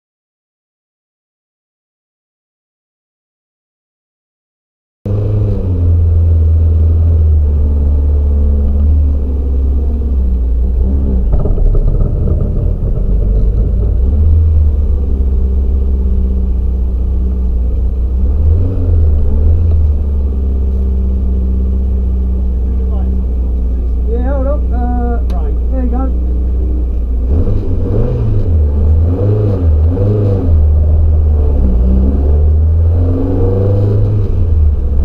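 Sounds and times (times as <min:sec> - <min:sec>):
car engine deep rumble revving: 0:05.1 - 0:35.0.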